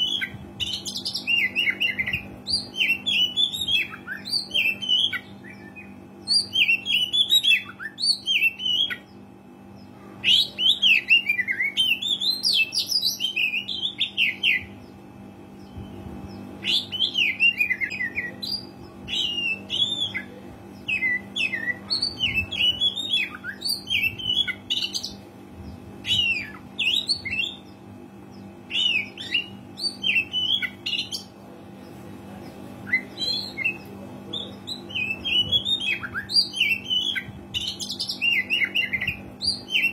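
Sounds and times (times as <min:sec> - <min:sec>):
magpie-robin singing: 0:00.0 - 0:15.0, 0:15.6 - 0:39.9
faint steady hum: 0:00.0 - 0:39.9.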